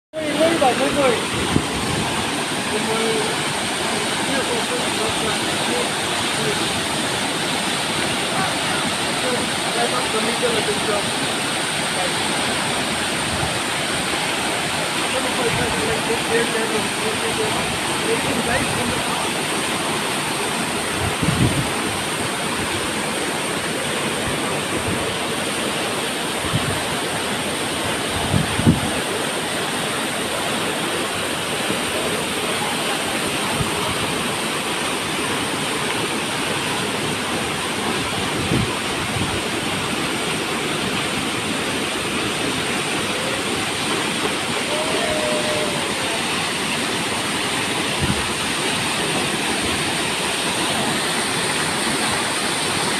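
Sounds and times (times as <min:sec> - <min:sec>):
waterfall rushing: 0:00.1 - 0:52.9.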